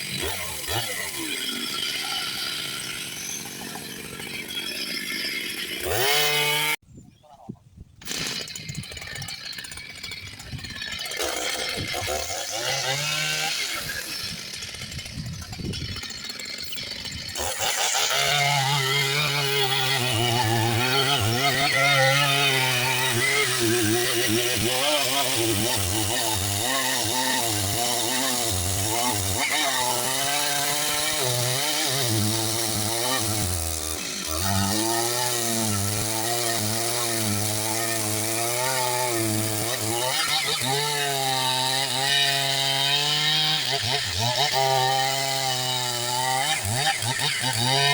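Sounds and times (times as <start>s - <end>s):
chainsaw engine running: 0.0s - 6.8s, 8.0s - 47.9s.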